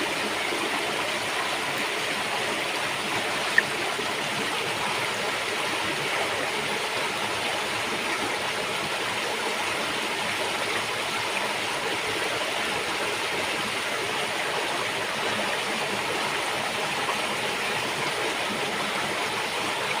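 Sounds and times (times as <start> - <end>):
river water flowing over rocks: 0.0 - 20.0.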